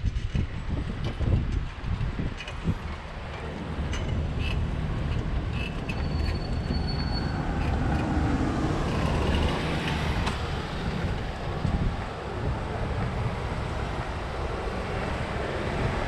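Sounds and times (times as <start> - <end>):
wind and tyre rumble: 0.0 - 16.0.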